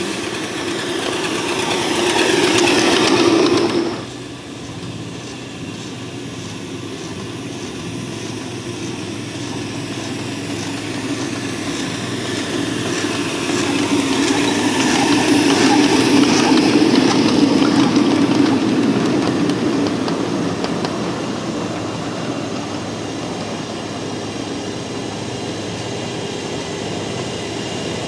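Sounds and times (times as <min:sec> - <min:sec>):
miniature steam locomotive running: 0:00.0 - 0:28.0
wheel clatter: 0:00.0 - 0:28.0.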